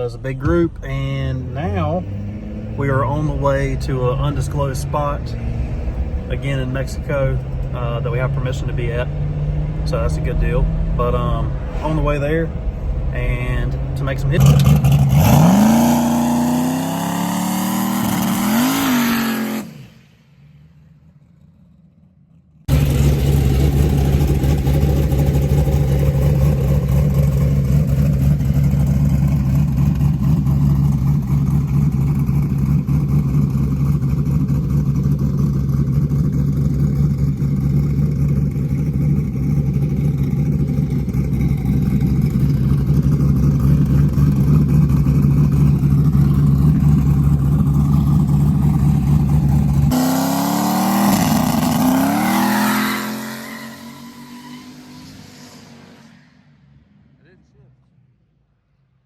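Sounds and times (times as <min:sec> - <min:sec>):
loud steady engine drone: 0:00.0 - 0:18.8, 0:22.7 - 0:52.5
car engine revving: 0:00.0 - 0:57.4.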